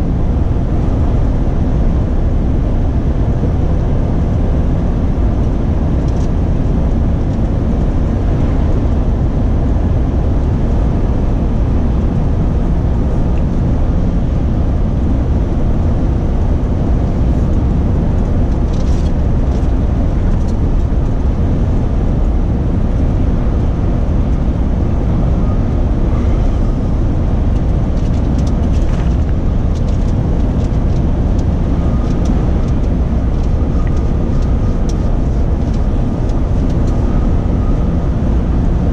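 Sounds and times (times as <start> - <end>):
lorry engine and tyres rumbling: 0.0 - 38.9.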